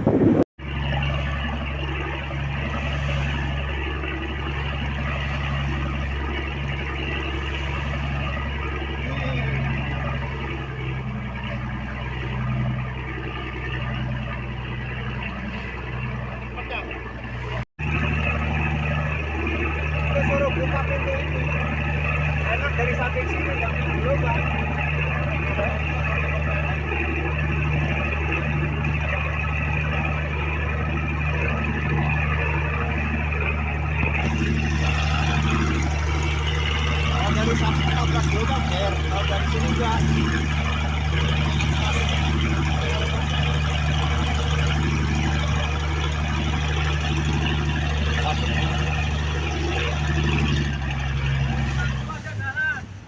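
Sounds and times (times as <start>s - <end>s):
boat engine droning: 0.0s - 53.0s
water wash: 0.0s - 53.0s.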